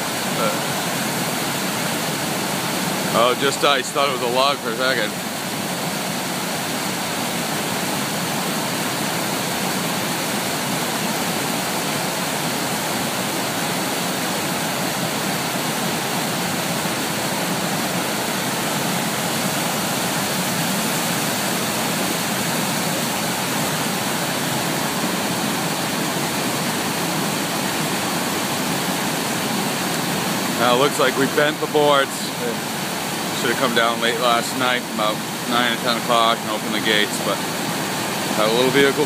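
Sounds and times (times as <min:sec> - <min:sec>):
water rushing over spillway: 0:00.0 - 0:39.0.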